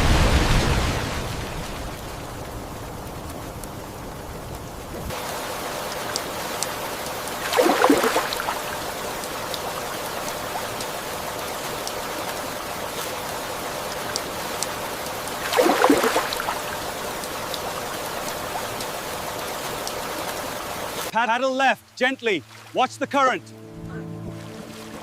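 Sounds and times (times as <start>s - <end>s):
flowing floodwater: 0.0s - 25.0s
steady rain: 0.0s - 25.0s
water splashes: 0.0s - 25.0s.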